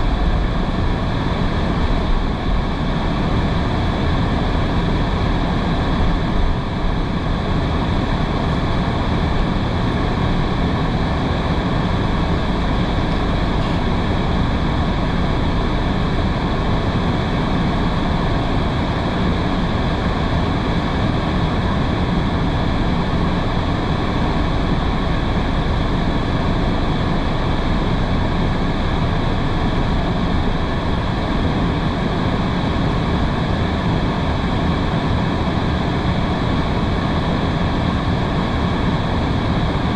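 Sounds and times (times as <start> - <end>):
low cabin rumble: 0.0 - 39.9.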